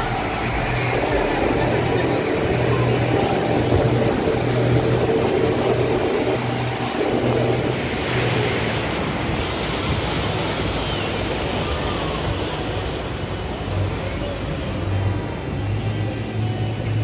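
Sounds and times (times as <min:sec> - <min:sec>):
boat engine drone: 0:00.0 - 0:17.0
water rushing along hull: 0:00.0 - 0:17.0.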